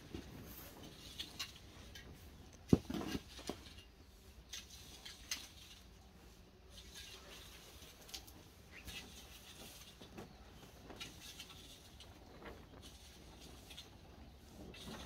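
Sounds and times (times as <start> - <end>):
rake scraping through sand: 0.2 - 15.0.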